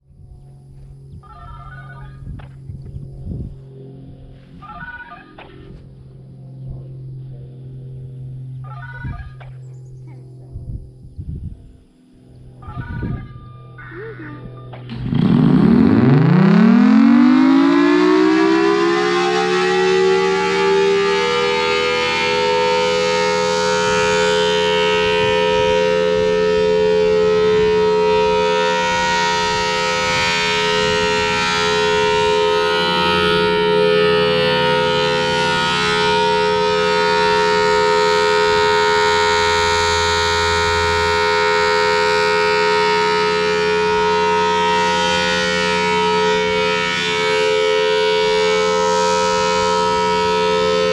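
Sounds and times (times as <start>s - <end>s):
tornado siren wailing: 0.1s - 9.6s, 12.2s - 50.9s.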